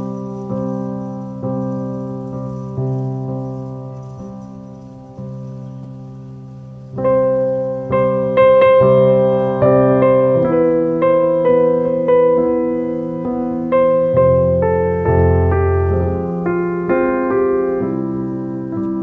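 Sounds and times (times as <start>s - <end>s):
slow piano melody: 0.0s - 19.0s.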